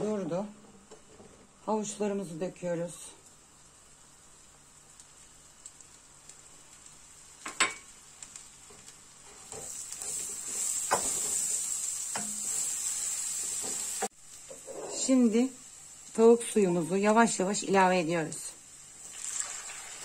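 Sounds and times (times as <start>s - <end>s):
food sizzling in butter: 1.9s - 20.0s.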